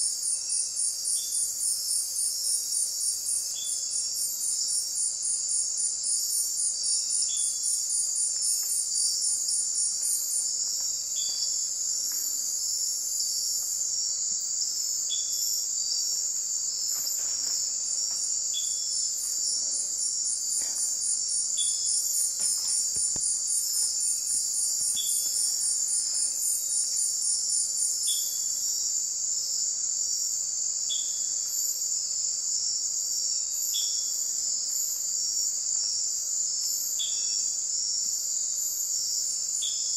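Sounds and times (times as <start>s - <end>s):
crickets buzzing: 0.0s - 39.9s
pulsing insect trill: 0.0s - 39.9s.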